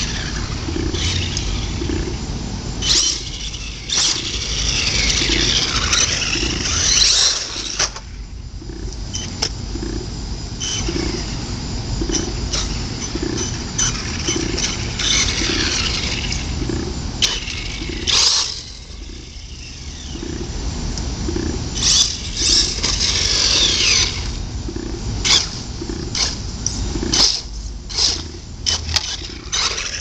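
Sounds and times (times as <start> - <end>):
rc truck motor whining: 0.0 - 9.9, 10.6 - 20.5, 21.3 - 30.0.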